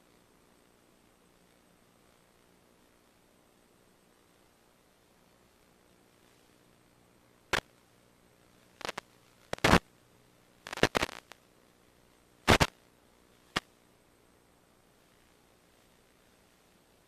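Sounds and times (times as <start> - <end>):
crackling static: 0.0 - 17.0.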